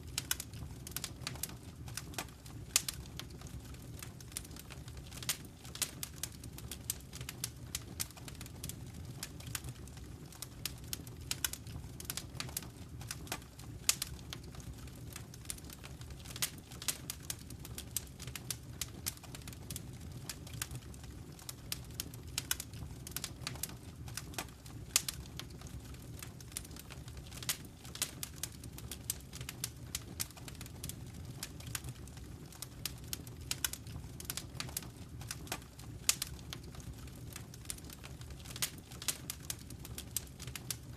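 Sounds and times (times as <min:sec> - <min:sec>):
fire pops and snaps: 0:00.0 - 0:40.9
low rumble of flames: 0:00.0 - 0:40.9.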